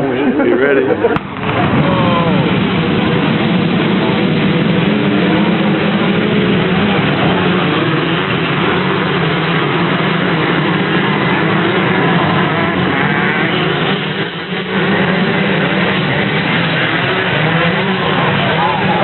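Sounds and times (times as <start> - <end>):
dirt bike engines racing: 0.0 - 19.0.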